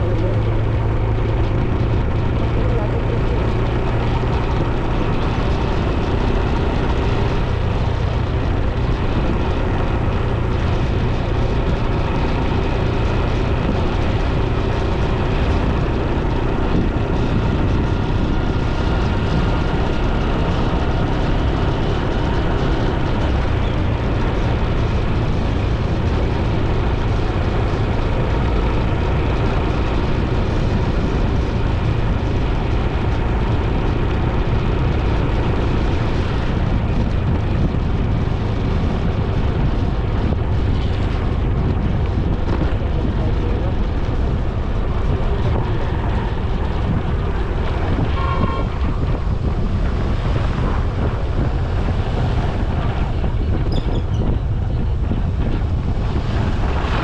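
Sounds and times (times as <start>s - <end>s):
tyres on road: 0.0s - 57.0s
vehicle engine: 0.0s - 57.0s
wind rumbling over microphone: 0.0s - 57.0s.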